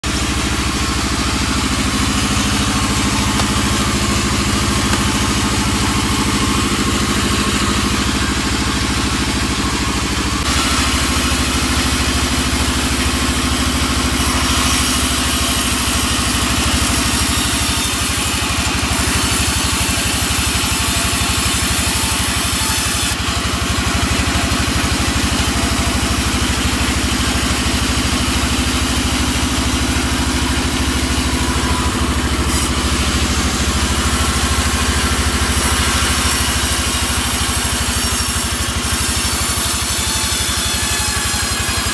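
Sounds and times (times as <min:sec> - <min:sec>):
saw blade cutting logs: 0:00.0 - 0:41.9
sawmill drive drone: 0:00.0 - 0:41.9.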